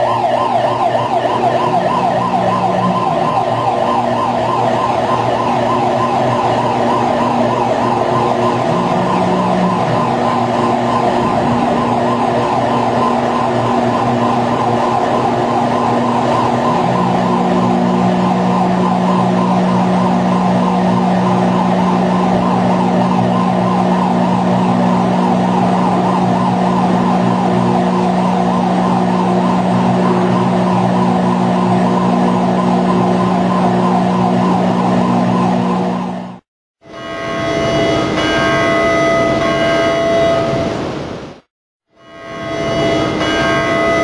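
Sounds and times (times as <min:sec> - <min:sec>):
electric machinery hum and whine: 0:00.0 - 0:36.3
lower machine tone: 0:00.0 - 0:40.8.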